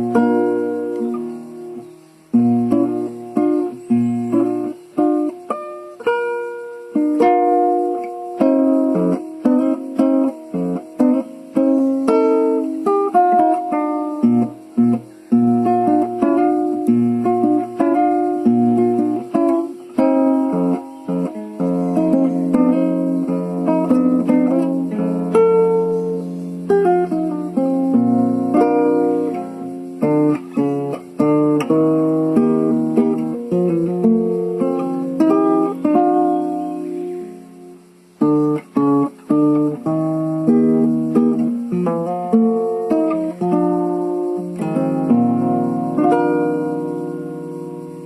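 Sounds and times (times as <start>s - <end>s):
plucked string instrument tune: 0.0s - 48.0s.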